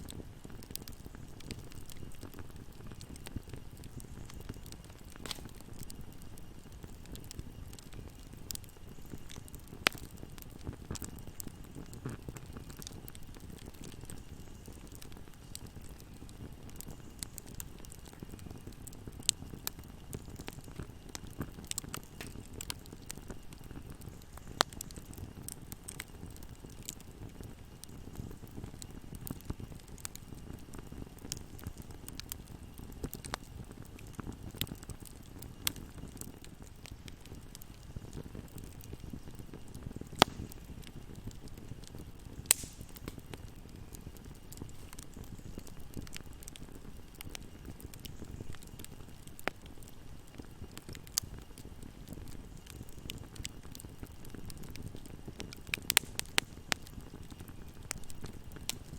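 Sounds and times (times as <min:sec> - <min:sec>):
fire popping and snapping: 0:00.0 - 0:58.9
flames rumbling: 0:00.0 - 0:58.9.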